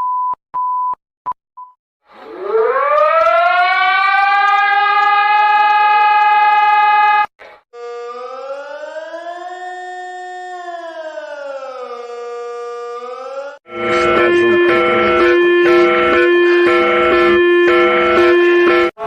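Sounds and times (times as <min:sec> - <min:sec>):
civil defense siren winding up: 0:02.1 - 0:19.0
quieter wailing siren: 0:02.2 - 0:19.0.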